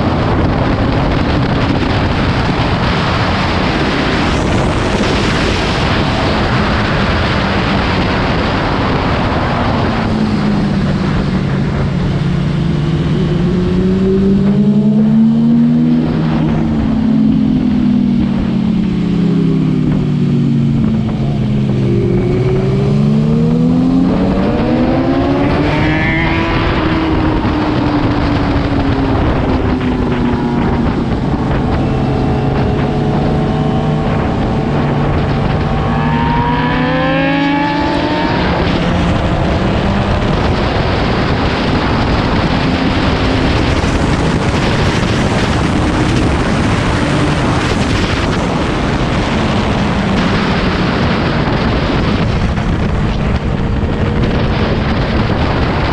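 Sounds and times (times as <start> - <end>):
loud steady rushing noise: 0.0 - 55.9
motorcycle engine accelerating: 0.0 - 55.9.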